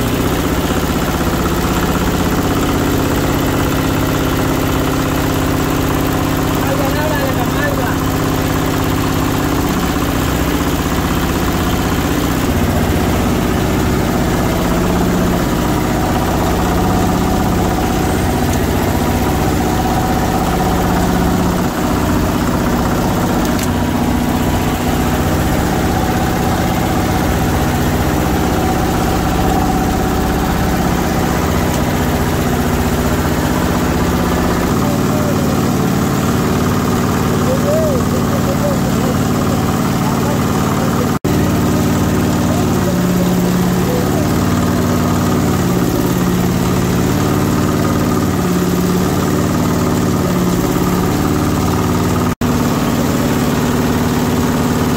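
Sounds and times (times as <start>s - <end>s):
meat mincer motor humming: 0.0s - 54.9s.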